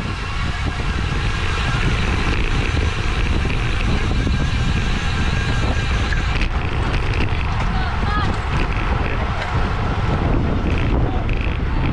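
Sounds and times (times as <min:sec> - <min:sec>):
bicycle tyre noise: 0:00.0 - 0:11.9
wind rushing over microphone: 0:00.0 - 0:11.9.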